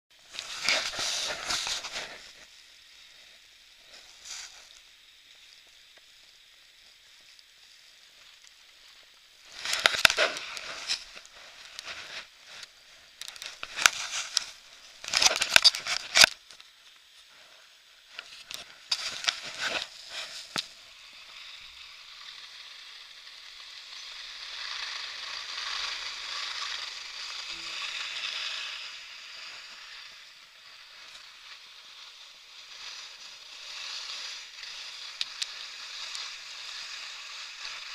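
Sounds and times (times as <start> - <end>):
skis scraping over snow: 0.1 - 37.9.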